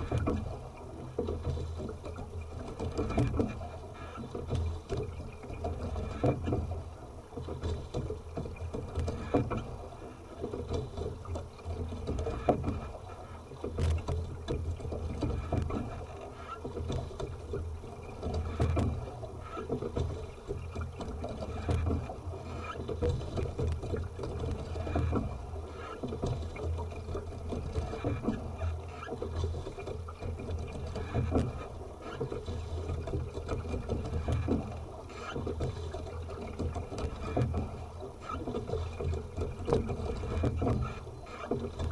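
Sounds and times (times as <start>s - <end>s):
water running along hull: 0.0s - 41.9s.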